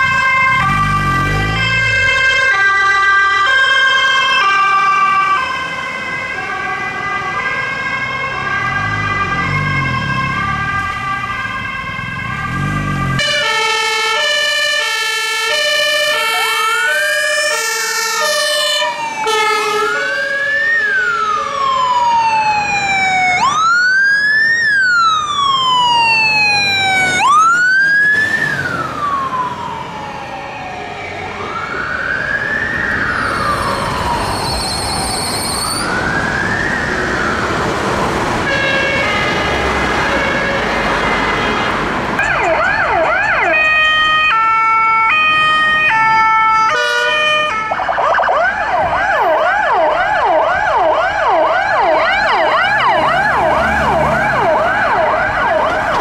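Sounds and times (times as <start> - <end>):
siren yelp: 0.0 - 56.0
two-tone siren: 0.0 - 56.0
wailing siren: 0.0 - 56.0.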